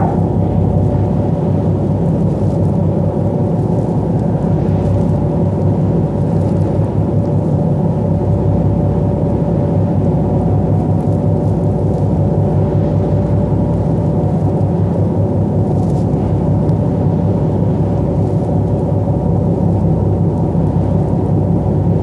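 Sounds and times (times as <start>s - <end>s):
bow wave rushing along hull: 0.0s - 22.0s
ferry engines droning: 0.0s - 22.0s.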